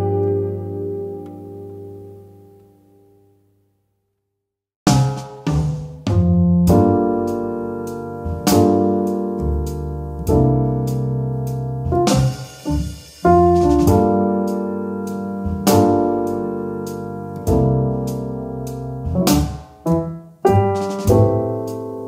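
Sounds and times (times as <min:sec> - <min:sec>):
piano chords: 0:00.0 - 0:02.9, 0:06.1 - 0:22.0.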